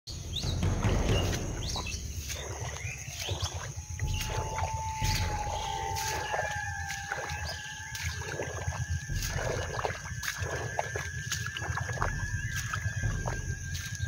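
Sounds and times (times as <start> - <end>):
footsteps splashing in puddles: 0.2 - 14.0.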